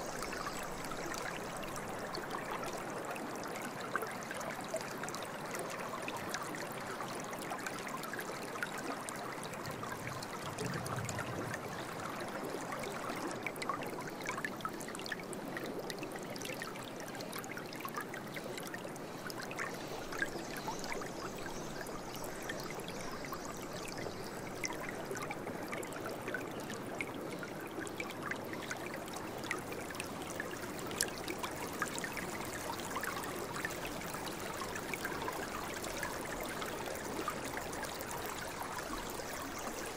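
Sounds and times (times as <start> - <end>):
stream trickling and burbling: 0.0 - 39.9.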